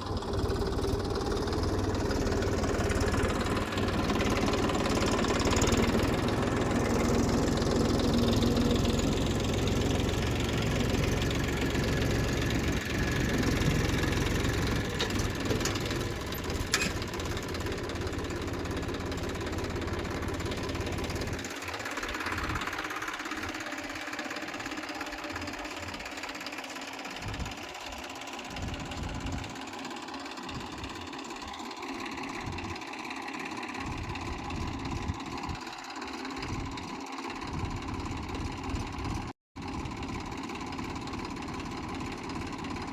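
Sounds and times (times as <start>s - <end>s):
diesel engine rumbling: 0.0s - 42.9s.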